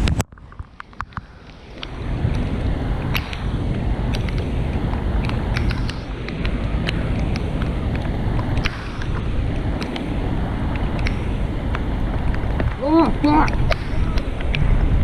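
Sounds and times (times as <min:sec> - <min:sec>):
wind buffeting microphone: 0:00.0 - 0:15.0
sharp ticks: 0:00.6 - 0:14.7.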